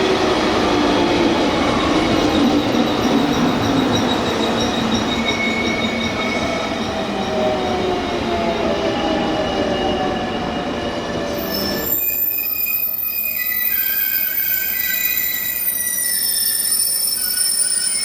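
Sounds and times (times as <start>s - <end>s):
train wheels and brakes squealing: 0.0s - 18.0s.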